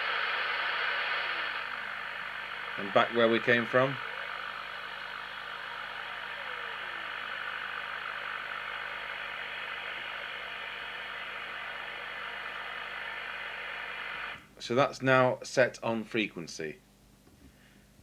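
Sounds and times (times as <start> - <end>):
radio receiver hiss: 0.0 - 16.3.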